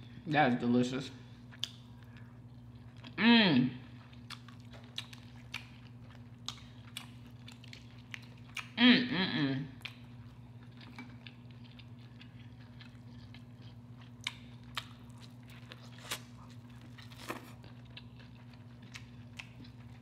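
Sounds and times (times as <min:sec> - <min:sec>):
chewing and mouth sounds: 0:01.4 - 0:08.8, 0:09.7 - 0:20.0.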